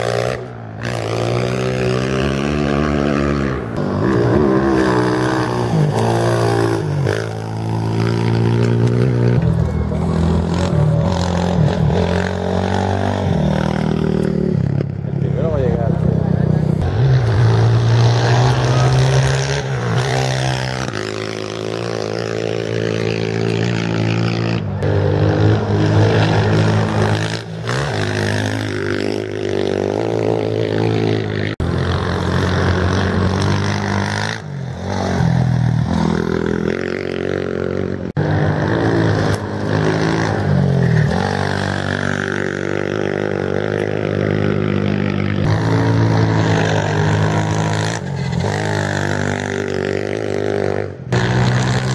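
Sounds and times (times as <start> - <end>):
motorcycles revving and accelerating: 0.0 - 51.9.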